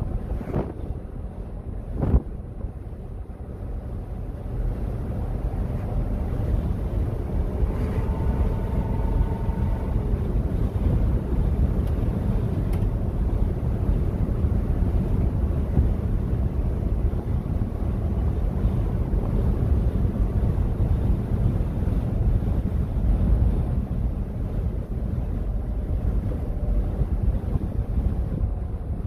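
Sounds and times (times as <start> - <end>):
engine exhaust drone: 0.0 - 29.0
wind rushing through open windows: 0.0 - 29.0.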